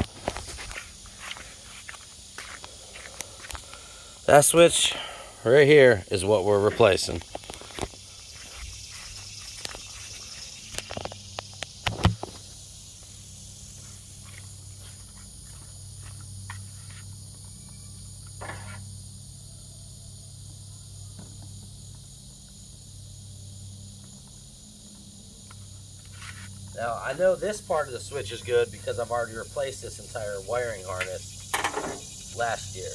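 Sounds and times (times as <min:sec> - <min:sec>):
low hum and hiss: 0:00.0 - 0:32.9.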